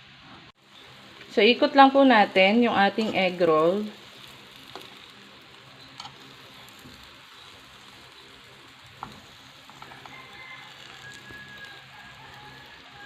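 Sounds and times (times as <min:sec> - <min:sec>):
egg sizzling in a pan: 0:00.6 - 0:13.0.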